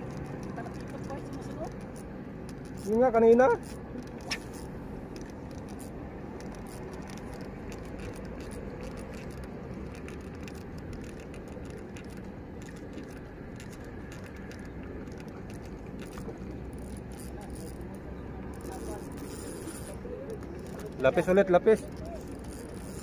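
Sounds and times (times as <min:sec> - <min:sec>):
fishing reel rattling ticks: 0:00.0 - 0:23.0
low rumble of wind: 0:00.0 - 0:23.0.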